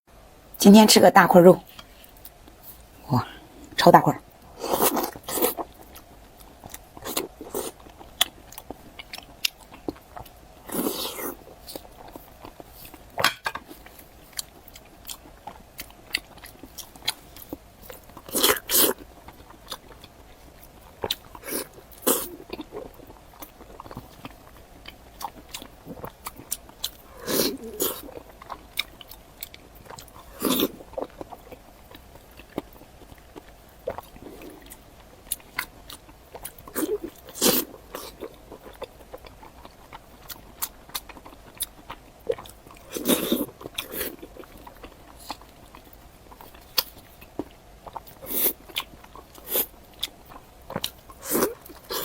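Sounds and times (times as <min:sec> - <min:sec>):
chewing meat: 0:04.5 - 0:52.0.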